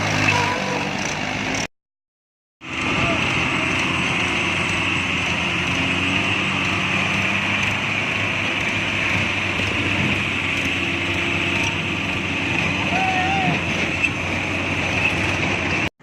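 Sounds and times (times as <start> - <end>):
tractor engine running: 0.0 - 1.7, 2.6 - 15.9.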